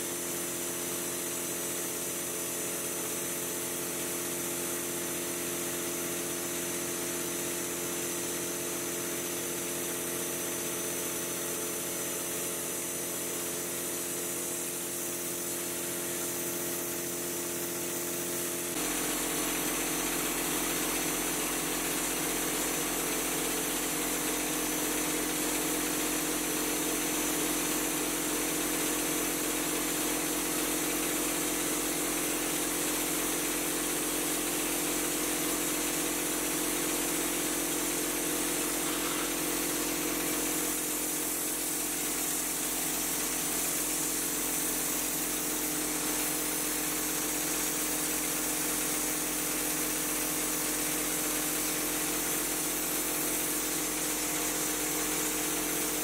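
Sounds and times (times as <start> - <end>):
drywall spray rig running: 0.0 - 56.0
spray gun hissing: 1.2 - 56.0.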